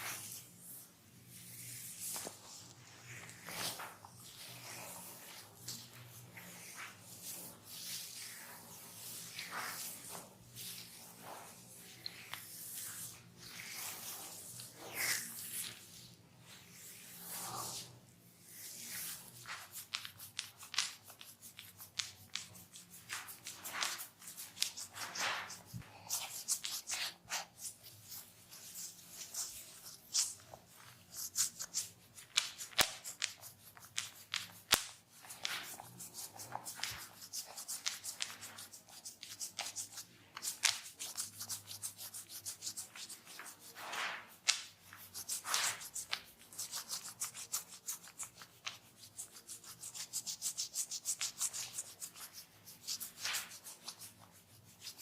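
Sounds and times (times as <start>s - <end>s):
hands rubbing skin: 1.4s - 16.0s, 18.6s - 55.0s.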